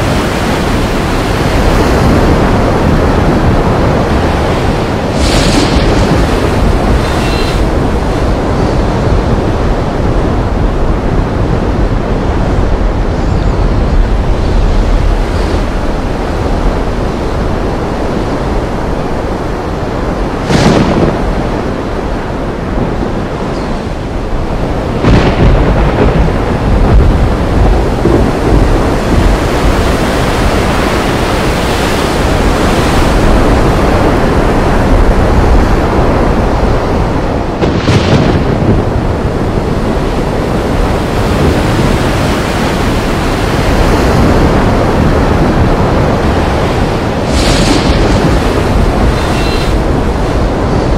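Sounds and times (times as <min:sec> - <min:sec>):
river rushing: 0:00.0 - 0:50.9.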